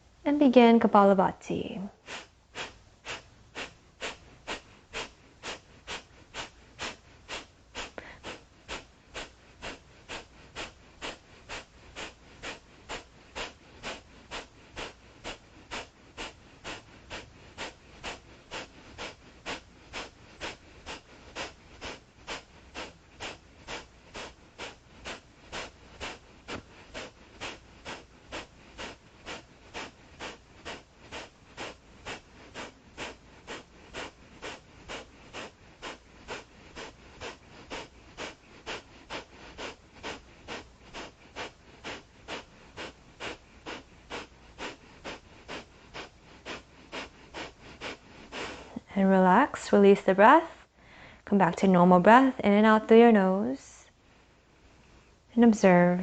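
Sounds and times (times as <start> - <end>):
forceful nasal exhalations: 1.9 - 49.6, 50.4 - 51.2.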